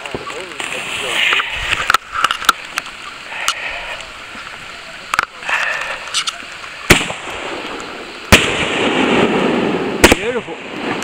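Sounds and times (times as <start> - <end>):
firework shells bursting: 0.0 - 11.0
rain hissing: 0.0 - 11.0.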